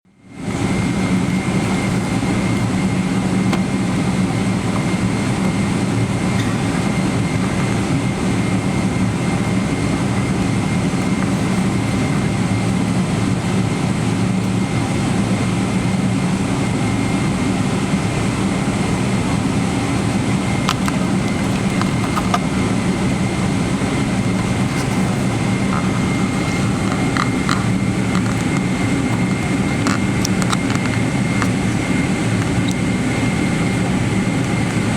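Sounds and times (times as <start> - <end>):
jet engines droning: 0.1 - 34.9.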